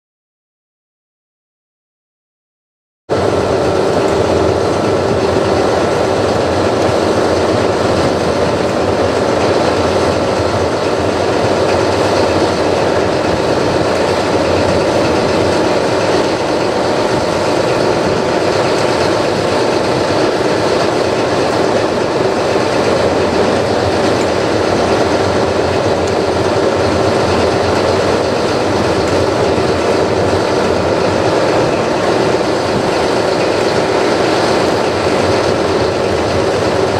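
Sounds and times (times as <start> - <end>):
diesel engine droning: 3.1 - 36.9.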